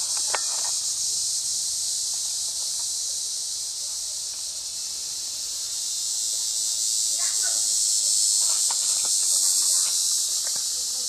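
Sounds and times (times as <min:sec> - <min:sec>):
insects droning in chorus: 0:00.0 - 0:11.0.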